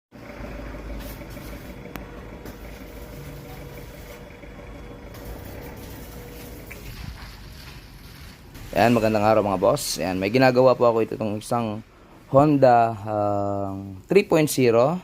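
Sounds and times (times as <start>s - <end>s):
vehicle engine rumble: 0.1s - 14.0s.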